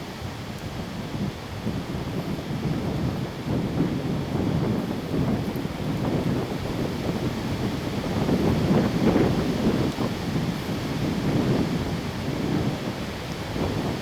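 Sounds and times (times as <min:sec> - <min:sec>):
wind gusts buffeting microphone: 0:00.0 - 0:14.0.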